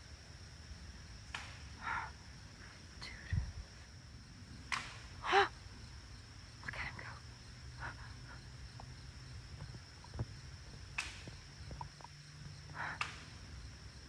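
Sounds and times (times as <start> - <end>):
high-pitched insect whine: 0.0 - 14.0.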